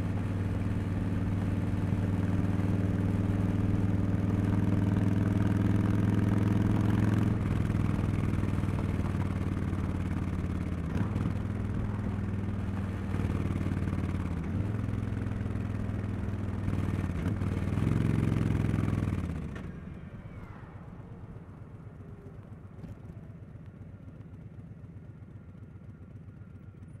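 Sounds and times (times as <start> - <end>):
motorcycle engine running: 0.0 - 20.1, 21.1 - 27.0.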